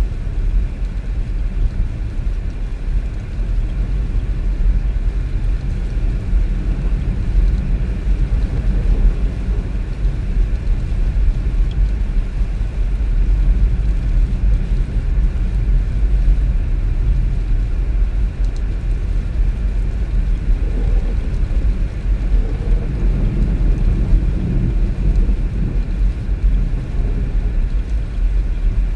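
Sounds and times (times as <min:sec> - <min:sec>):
car road and engine rumble: 0:00.0 - 0:28.9.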